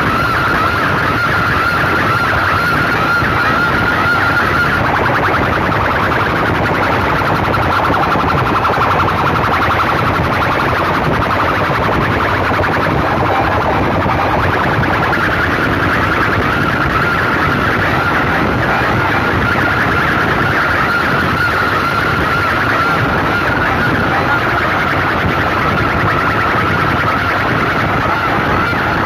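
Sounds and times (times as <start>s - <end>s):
distorted loudspeaker blast: 0.0s - 29.0s
wavering high tone: 0.0s - 29.0s.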